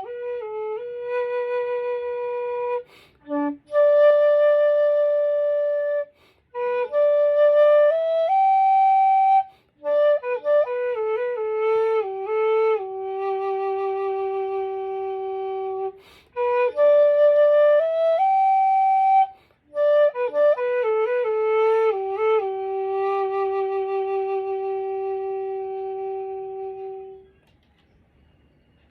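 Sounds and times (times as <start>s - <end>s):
bamboo flute slow melody: 0.0s - 27.4s.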